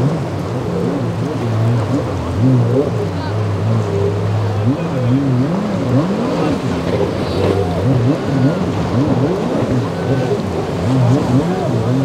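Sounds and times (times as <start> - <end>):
motorboat engines revving: 0.0 - 12.0
water wash: 0.0 - 12.0.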